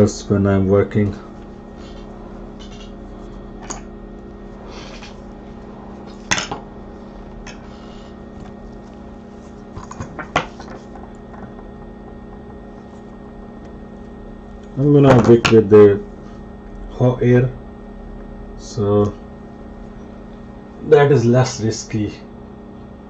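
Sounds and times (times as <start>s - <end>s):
steady electrical hum: 0.0s - 23.0s.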